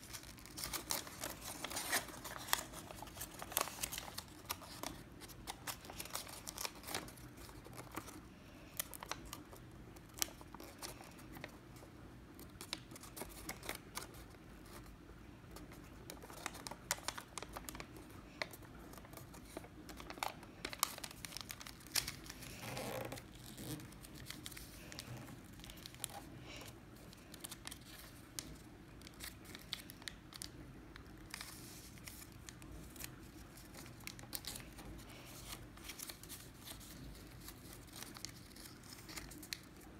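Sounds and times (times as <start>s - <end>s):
paper being folded and creased: 0.0s - 14.9s, 15.6s - 39.9s.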